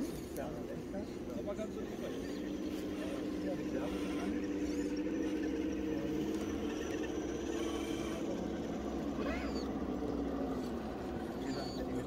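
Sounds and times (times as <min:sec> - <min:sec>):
electric motor whining: 0:01.4 - 0:12.0.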